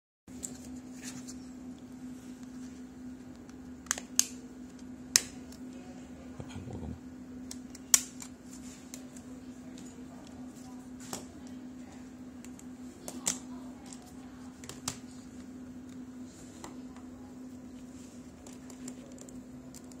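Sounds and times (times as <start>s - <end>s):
steady low hum: 0.3s - 20.0s.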